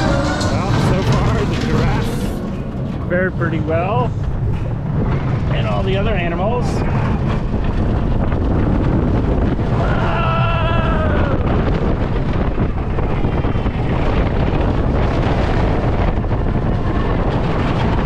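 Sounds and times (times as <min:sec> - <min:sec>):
roller coaster rumbling on track: 0:00.0 - 0:18.0
wind buffeting microphone: 0:00.0 - 0:18.0.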